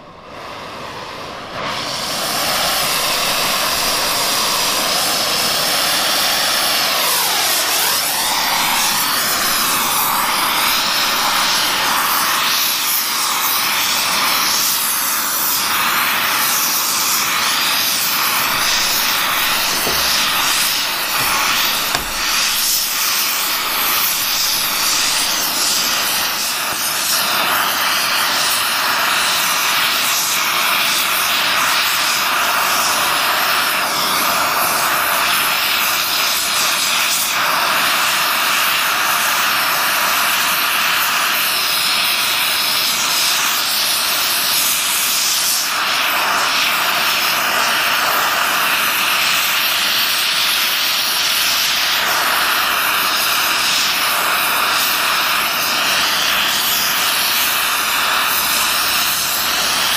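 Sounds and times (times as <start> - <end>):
torch flame hissing: 0.2 - 59.9.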